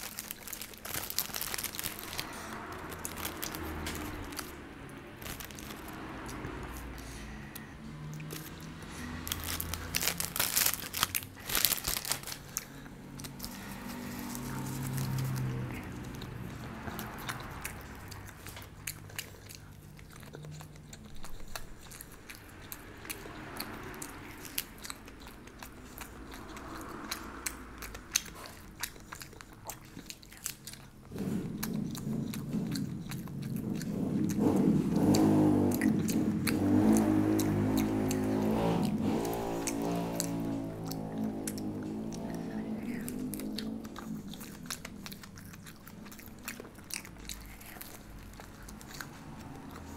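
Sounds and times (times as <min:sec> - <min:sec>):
crunchy bites: 0:00.0 - 0:04.6, 0:05.2 - 0:49.9
person chewing food: 0:00.0 - 0:49.9.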